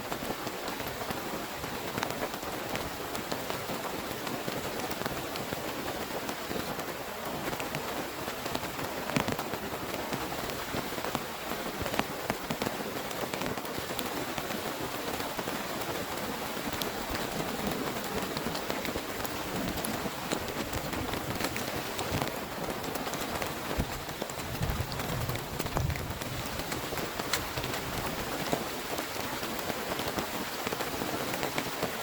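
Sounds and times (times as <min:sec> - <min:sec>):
heavy rain falling: 0:00.0 - 0:32.0
raindrops tapping a surface: 0:00.1 - 0:32.0.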